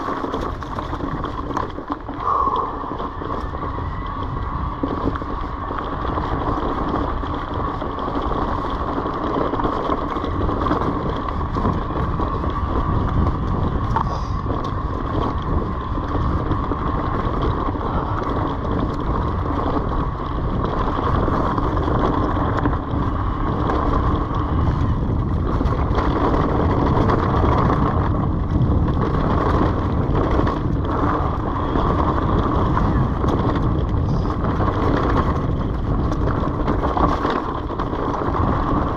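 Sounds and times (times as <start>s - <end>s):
electric bike motor hum: 0.0s - 38.9s
tyres rolling over dry leaves: 0.0s - 38.9s
wind on microphone: 0.0s - 38.9s.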